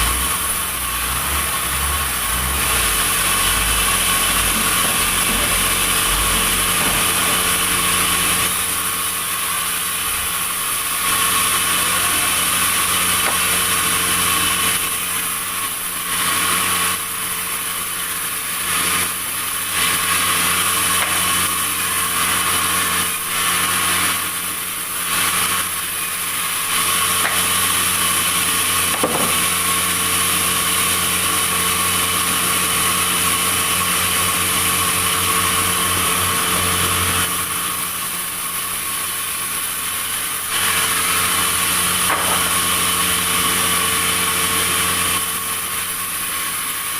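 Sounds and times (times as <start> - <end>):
saw cutting wood: 0.0 - 46.9.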